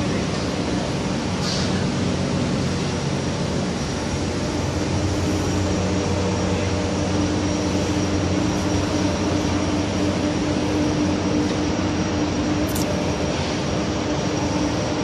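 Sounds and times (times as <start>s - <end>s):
heavy machinery drone: 0.0s - 15.0s.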